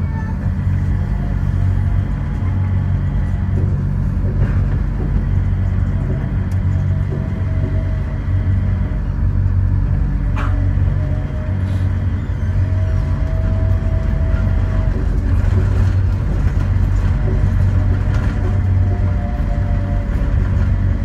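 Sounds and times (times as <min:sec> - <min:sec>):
train running low rumble: 0:00.0 - 0:21.0.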